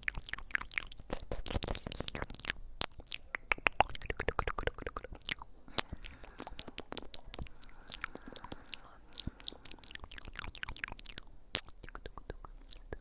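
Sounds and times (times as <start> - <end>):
crisp clicks and crackles: 0.0 - 13.0.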